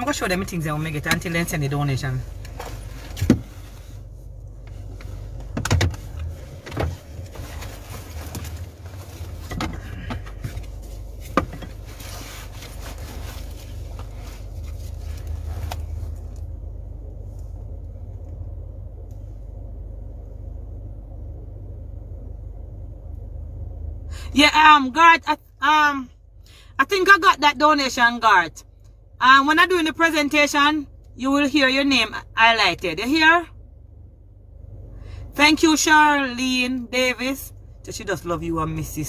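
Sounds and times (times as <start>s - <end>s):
car cabin hum: 0.0s - 39.0s.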